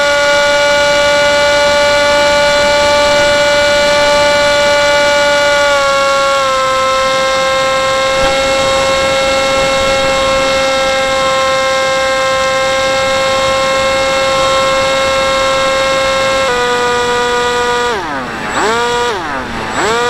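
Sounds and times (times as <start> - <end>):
motor and propeller whining: 0.0 - 20.0.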